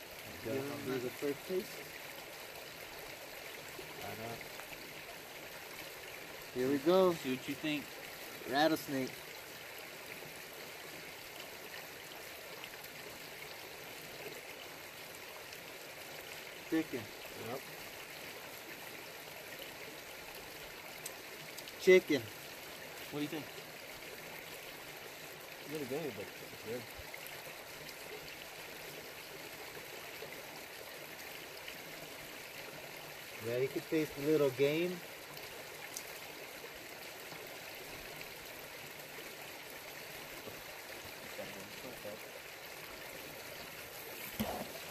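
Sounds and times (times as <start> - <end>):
creek flowing: 0.0 - 44.9.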